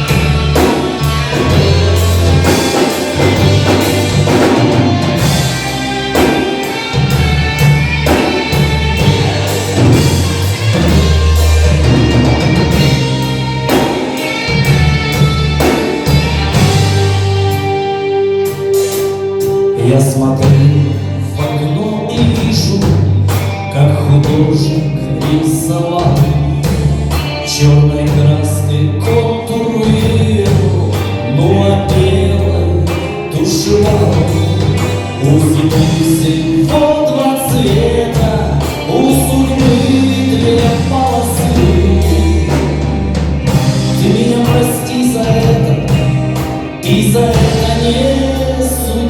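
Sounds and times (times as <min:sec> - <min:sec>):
bass line: 0:00.0 - 0:49.0
drum kit beat: 0:00.0 - 0:49.0
live rock band playing: 0:00.0 - 0:49.0.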